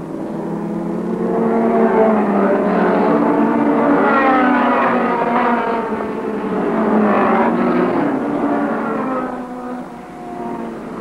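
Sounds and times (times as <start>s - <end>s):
racing car engines at high revs: 0.0s - 11.0s.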